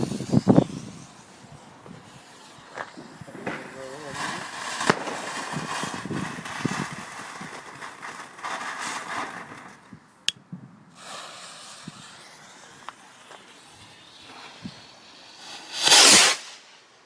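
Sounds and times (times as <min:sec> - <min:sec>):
fireworks hissing crackle: 0:00.0 - 0:10.2, 0:10.9 - 0:17.0
small fireworks pops: 0:00.0 - 0:16.8.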